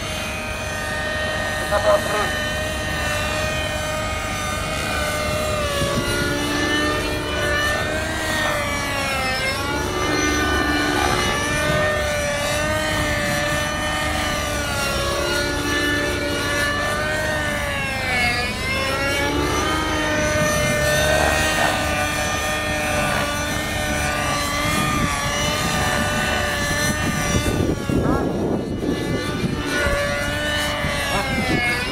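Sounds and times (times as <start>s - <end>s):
model helicopter motor whine: 0.0s - 31.9s.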